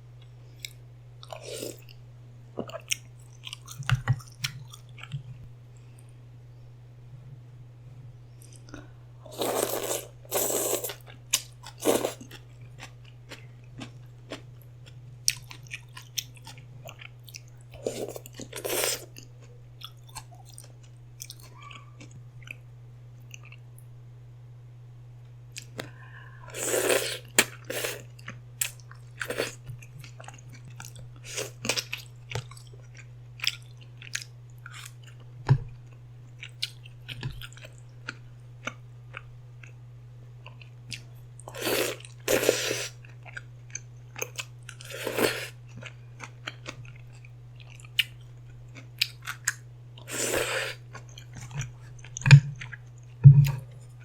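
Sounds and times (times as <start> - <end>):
steady low hum: 0.0 - 54.0
chewing and crunching: 2.6 - 5.4, 8.4 - 22.6, 26.6 - 39.8, 40.4 - 54.0.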